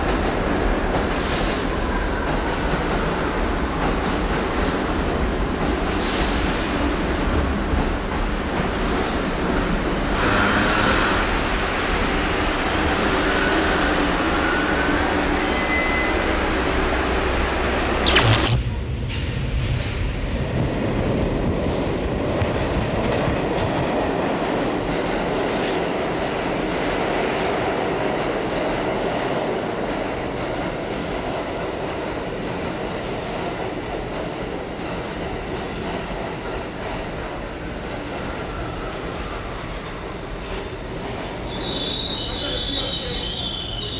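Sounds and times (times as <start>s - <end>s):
subway train passing: 0.0s - 18.0s, 18.8s - 43.9s.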